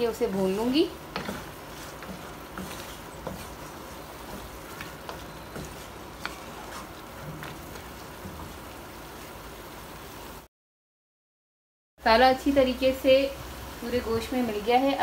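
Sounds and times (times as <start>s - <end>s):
meat sizzling in a pan: 0.0s - 10.5s, 12.1s - 15.0s.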